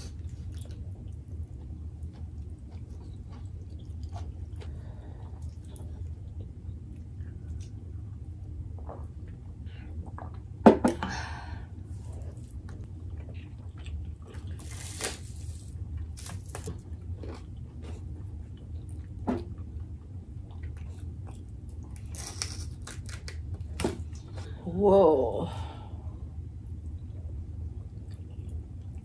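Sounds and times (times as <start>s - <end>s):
people chewing food: 0.0s - 10.6s, 11.9s - 24.6s, 26.7s - 29.0s.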